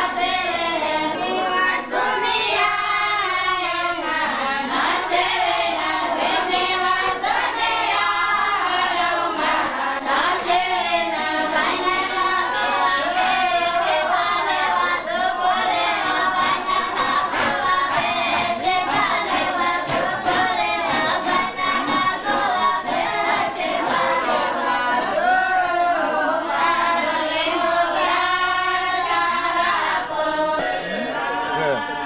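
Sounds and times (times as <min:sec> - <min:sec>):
women singing unaccompanied: 0:00.0 - 0:32.0.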